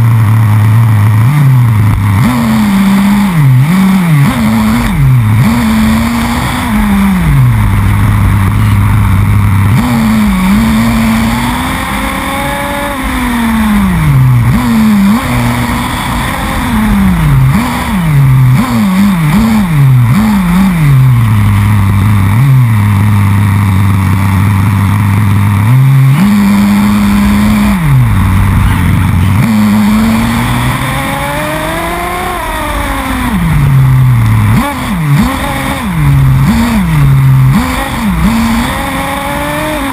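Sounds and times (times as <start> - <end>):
model car engine revving: 0.0 - 39.9
tyre and road noise: 0.0 - 39.9.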